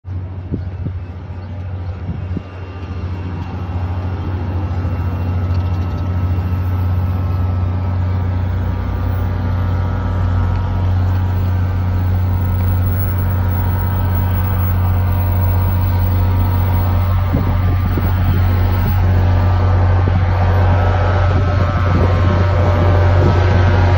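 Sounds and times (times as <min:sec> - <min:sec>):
locomotive generator droning: 0:00.1 - 0:23.9.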